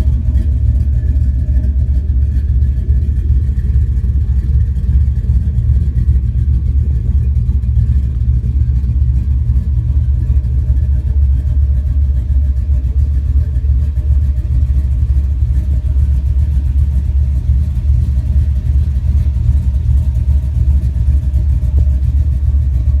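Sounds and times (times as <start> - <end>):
loud deep engine idling: 0.0 - 23.0.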